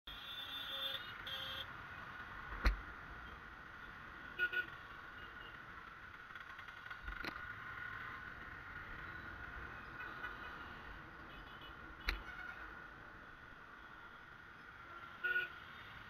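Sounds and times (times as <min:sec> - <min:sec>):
motorcycle engine and road noise: 0:00.1 - 0:16.0.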